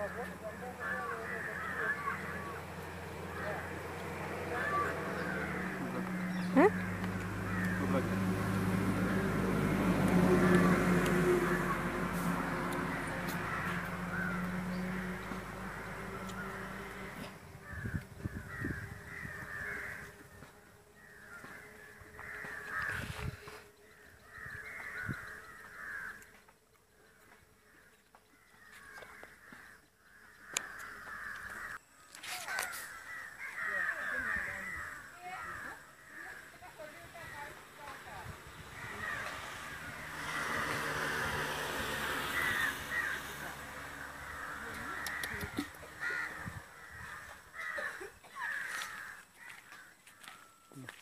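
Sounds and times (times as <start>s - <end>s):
birds calling: 0.0s - 51.0s.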